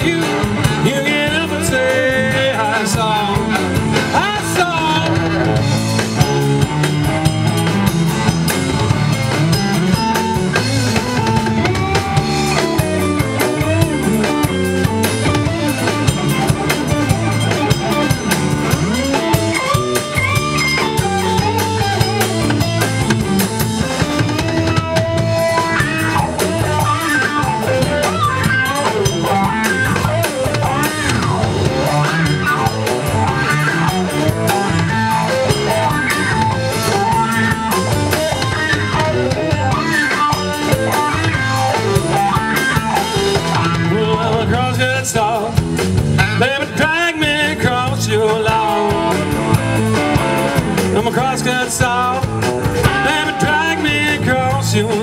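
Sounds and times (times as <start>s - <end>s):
drum kit: 0.0s - 55.0s
electric bass: 0.0s - 55.0s
electric guitar: 0.0s - 55.0s.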